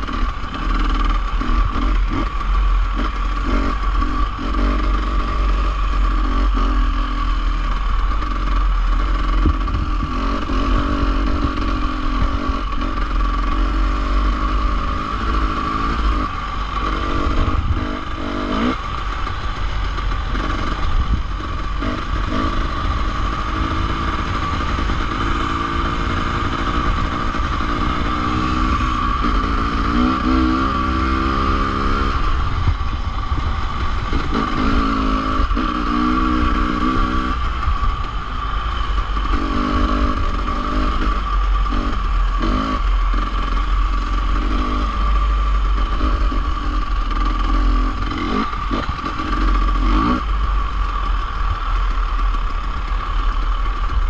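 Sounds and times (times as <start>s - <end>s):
constant rushing noise: 0.0s - 54.0s
dirt bike engine revving: 0.0s - 54.0s.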